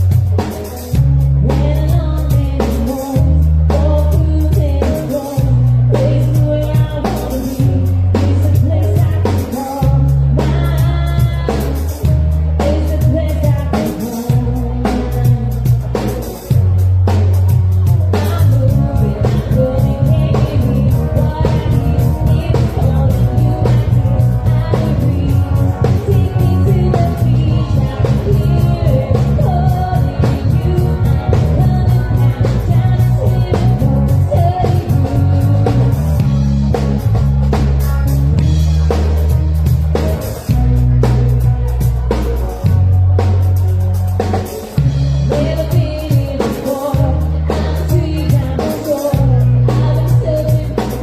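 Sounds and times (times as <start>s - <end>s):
bass line: 0.0s - 51.0s
electric guitar: 0.0s - 51.0s
person singing: 0.0s - 51.0s
steady drum beat: 0.0s - 51.0s.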